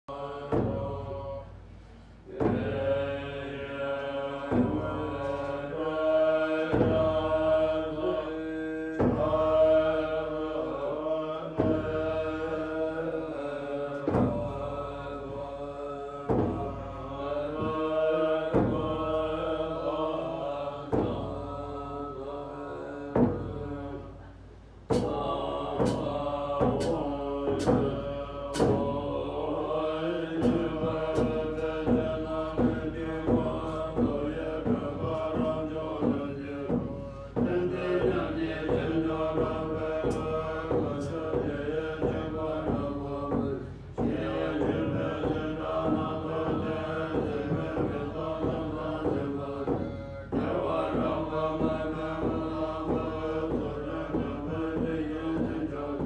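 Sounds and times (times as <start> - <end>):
melodic mantra chanting: 2.3 - 24.3, 25.0 - 56.0.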